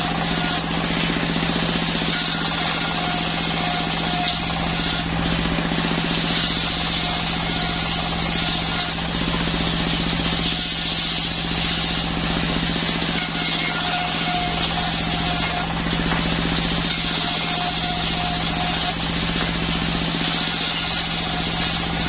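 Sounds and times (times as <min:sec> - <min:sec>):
saw blade rushing through log: 0:00.0 - 0:22.0
sawmill machine hum: 0:00.0 - 0:22.0.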